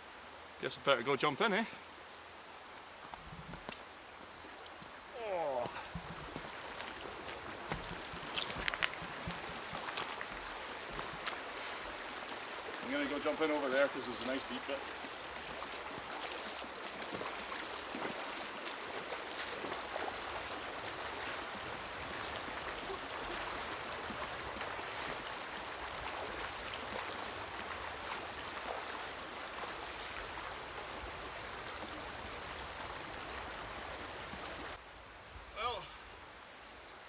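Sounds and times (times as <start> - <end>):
river water rushing: 3.9 - 34.8.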